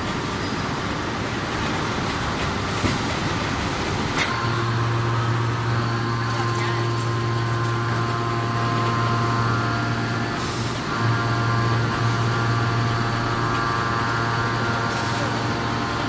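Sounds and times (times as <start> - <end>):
forging press machine hum: 2.8 - 16.0.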